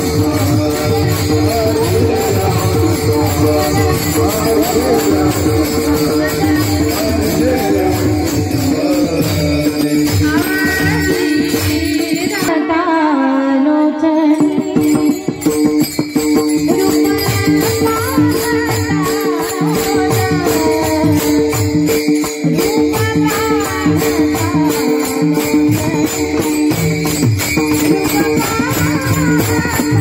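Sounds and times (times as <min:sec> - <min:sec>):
woman singing: 0:00.0 - 0:08.8, 0:10.1 - 0:15.5, 0:16.7 - 0:27.1, 0:27.7 - 0:30.0
hand cymbals clashing: 0:00.0 - 0:12.5, 0:14.4 - 0:30.0
hand drum: 0:00.0 - 0:12.5, 0:14.4 - 0:30.0.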